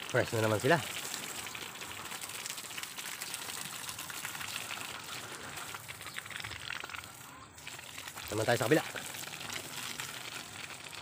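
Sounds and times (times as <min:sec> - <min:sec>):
hose water spattering on leaves: 0:00.0 - 0:11.0.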